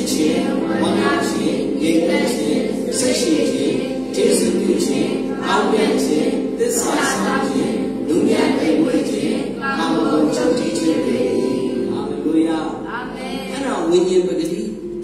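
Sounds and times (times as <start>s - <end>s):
man speaking through microphone: 0.0s - 12.9s, 13.5s - 14.9s
congregation voices raised together: 0.0s - 14.0s.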